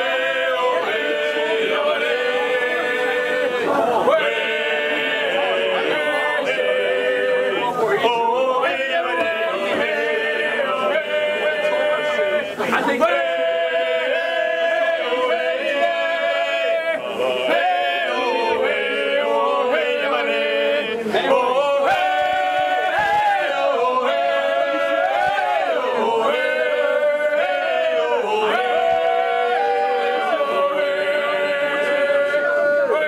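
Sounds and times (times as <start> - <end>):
male vocal quartet singing: 0.0 - 33.0.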